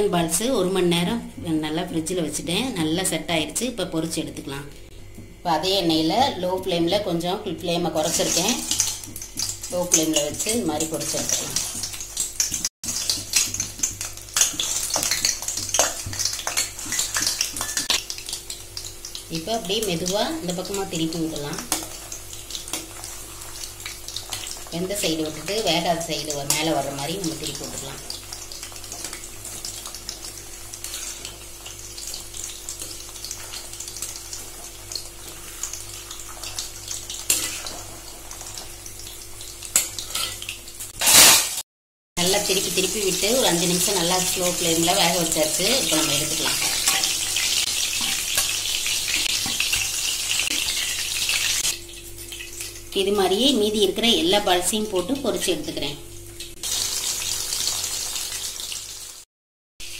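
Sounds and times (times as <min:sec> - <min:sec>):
food deep-frying in oil: 0:04.8 - 0:41.6, 0:42.2 - 0:59.9.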